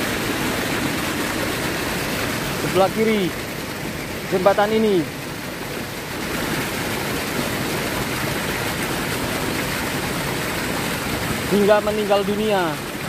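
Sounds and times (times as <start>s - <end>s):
water rushing over dam: 0.0s - 13.0s.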